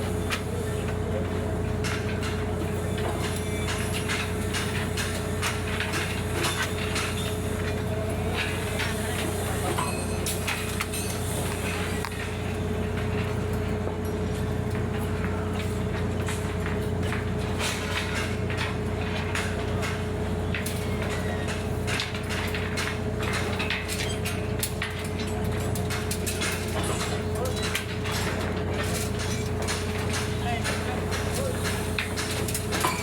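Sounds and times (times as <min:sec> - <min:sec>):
crane engine humming: 0:00.0 - 0:23.3, 0:27.1 - 0:33.0.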